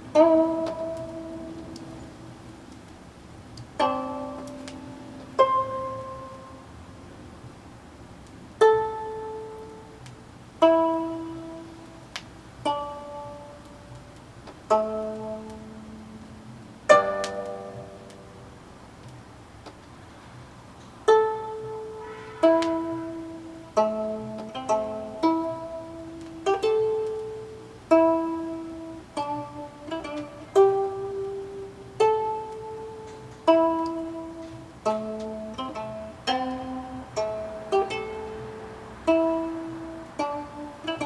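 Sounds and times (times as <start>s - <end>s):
faint string clicks: 0.0s - 41.0s
plucked zither notes: 0.0s - 41.0s.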